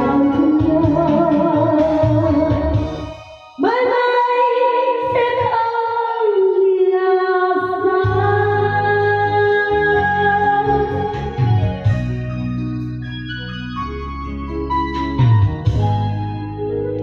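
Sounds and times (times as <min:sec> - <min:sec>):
song with backing track: 0:00.0 - 0:17.0.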